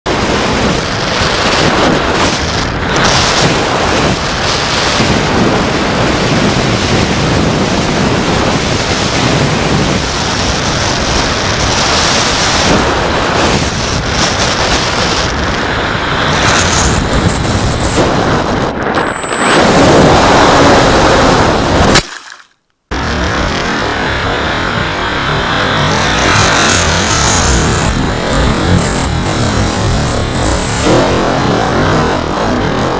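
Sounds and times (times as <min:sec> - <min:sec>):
wind roaring over camera: 0:00.0 - 0:22.0, 0:22.9 - 0:32.9.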